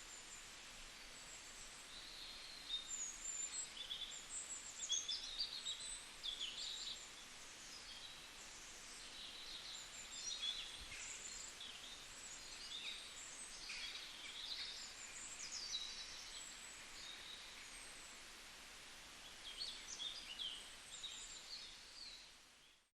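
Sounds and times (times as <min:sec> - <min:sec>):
small birds chirping: 0:00.0 - 0:22.9
steady background hiss: 0:00.0 - 0:22.9.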